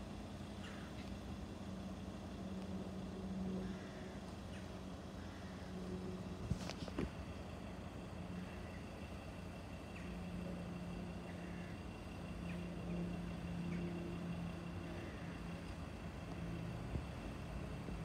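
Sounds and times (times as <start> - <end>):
faint high whine: 0.0 - 18.0
vehicle engine hum: 0.0 - 18.0.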